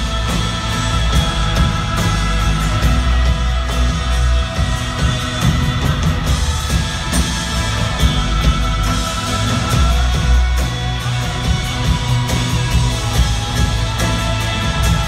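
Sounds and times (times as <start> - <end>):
live band playing rock music: 0.0 - 15.0.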